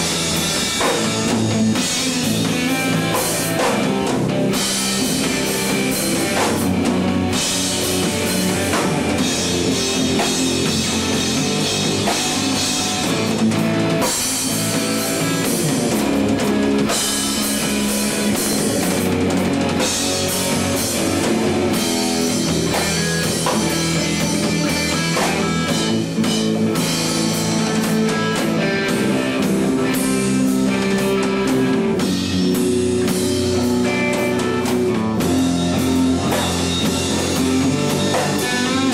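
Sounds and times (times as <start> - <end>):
rock song with drums and guitars: 0.0 - 38.9.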